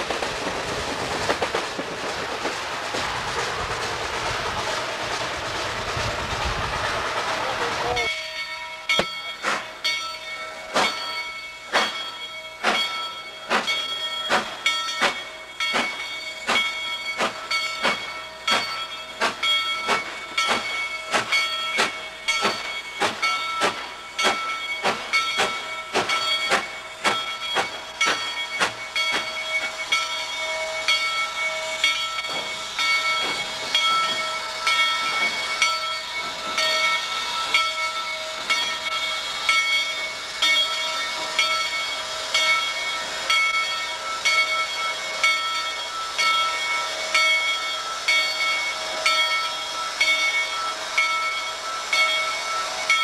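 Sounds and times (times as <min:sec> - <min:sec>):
steam hissing: 0:00.0 - 0:08.3, 0:09.2 - 0:53.0
steam locomotive chuffing: 0:00.0 - 0:53.0.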